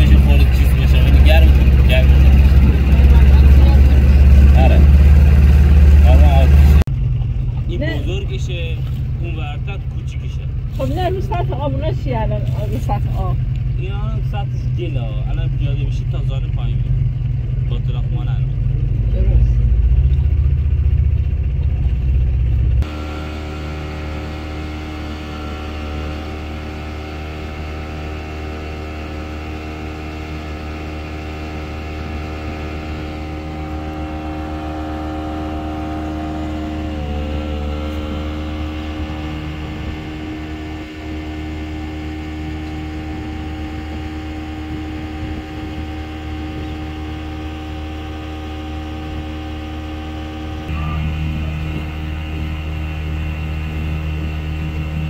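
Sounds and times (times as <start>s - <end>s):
heavy low rumble: 0.0s - 55.0s
motorboat engine running: 0.0s - 55.0s.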